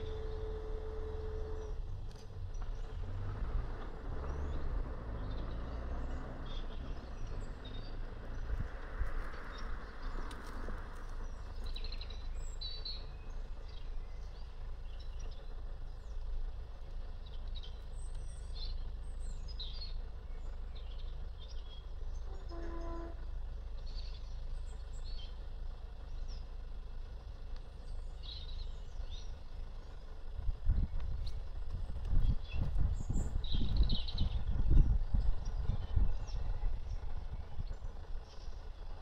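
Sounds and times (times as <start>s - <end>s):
outdoor background rumble: 0.0s - 39.0s
small birds chirping: 3.8s - 39.0s.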